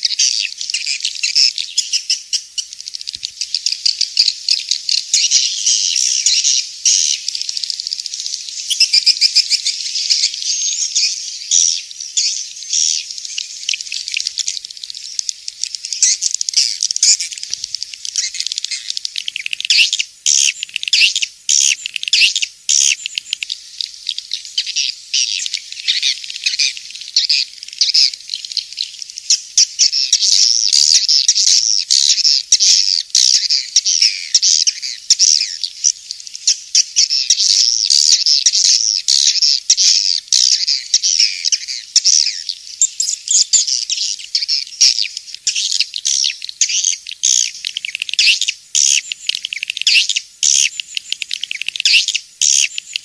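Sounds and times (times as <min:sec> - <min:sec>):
swiftlets chirping and twittering: 0:00.0 - 0:53.0.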